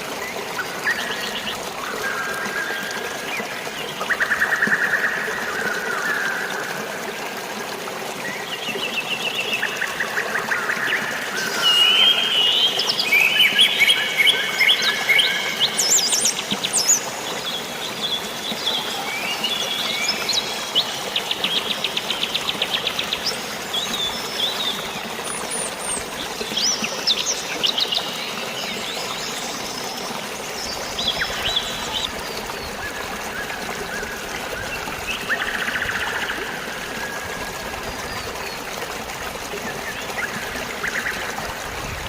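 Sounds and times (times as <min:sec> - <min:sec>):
hiss of flowing water: 0:00.0 - 0:42.0.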